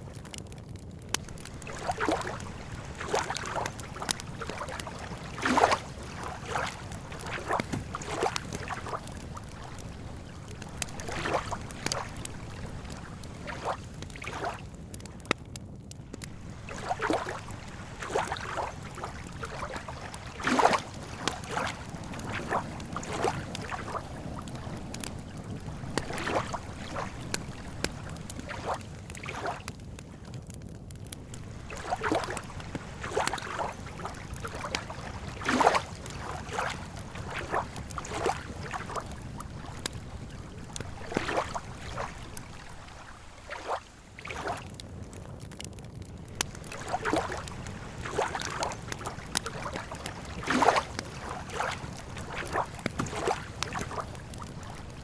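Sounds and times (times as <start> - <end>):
campfire crackling and popping: 0.0 - 55.0
small waves lapping: 1.1 - 15.3, 16.0 - 30.2, 31.1 - 55.0.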